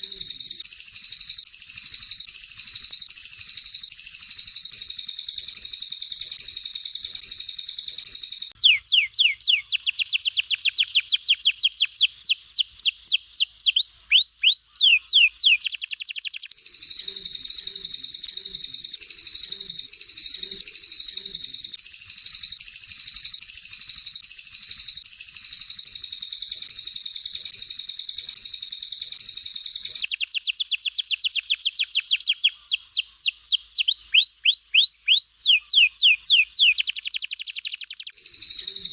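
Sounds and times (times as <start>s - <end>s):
high-pitched trilling bird warble: 0.0s - 38.9s.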